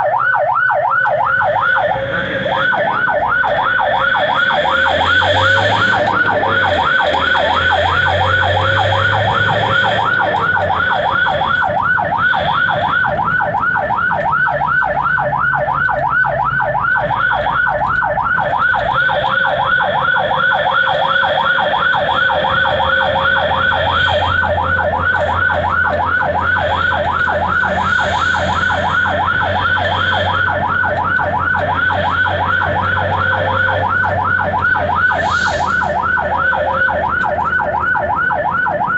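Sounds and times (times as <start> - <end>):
ambulance siren yelping: 0.0 - 38.9.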